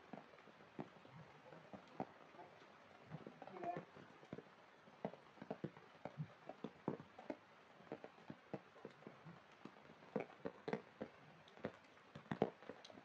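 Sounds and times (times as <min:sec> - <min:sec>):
raindrops falling into puddles: 0:00.0 - 0:13.0.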